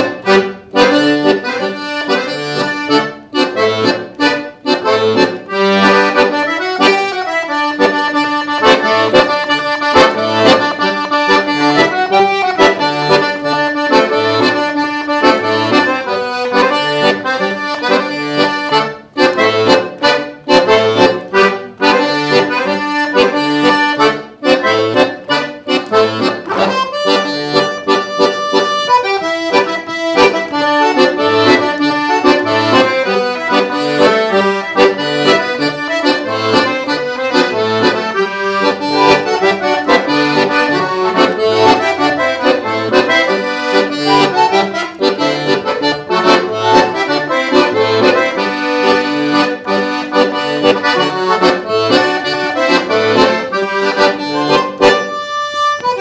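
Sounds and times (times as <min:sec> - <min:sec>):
solo accordion folk tune: 0:00.0 - 0:56.0.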